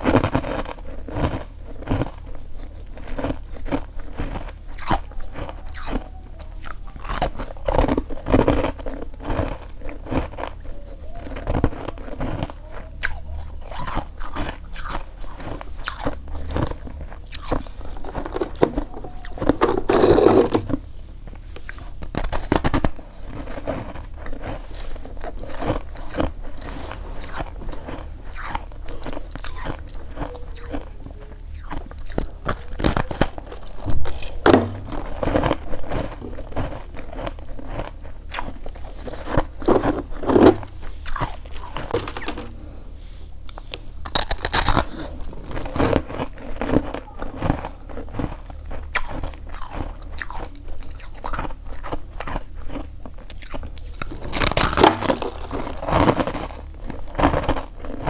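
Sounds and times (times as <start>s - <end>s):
frost being chewed crunching: 0.0s - 58.0s.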